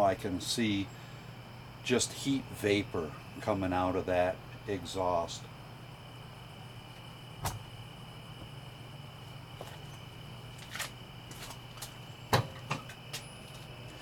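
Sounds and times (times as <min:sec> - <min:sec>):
furnace fan humming: 0:00.0 - 0:14.0.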